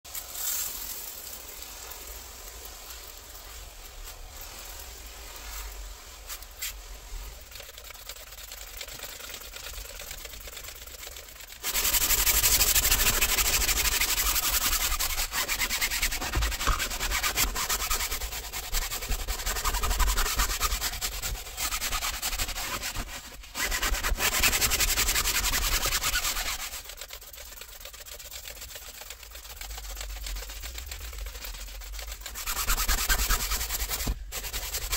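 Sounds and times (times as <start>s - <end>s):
stiff brush scrubbing fabric: 0.1s - 34.9s.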